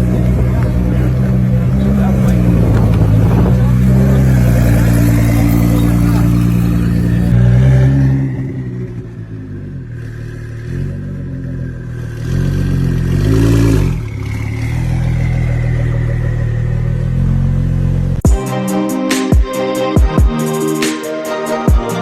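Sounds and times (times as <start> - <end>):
car engine revving: 0.0 - 18.3.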